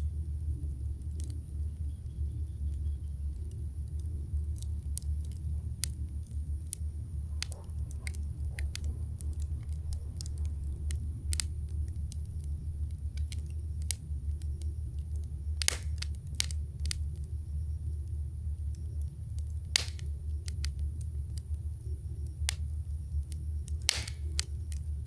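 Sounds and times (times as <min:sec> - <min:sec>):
campfire crackling and popping: 0:00.0 - 0:25.0
low rumble: 0:00.0 - 0:25.0.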